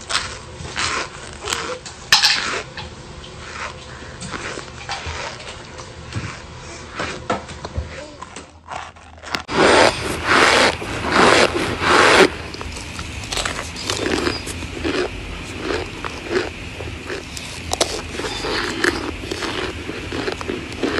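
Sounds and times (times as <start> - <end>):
cornstarch chunks crunching: 0.0 - 20.9.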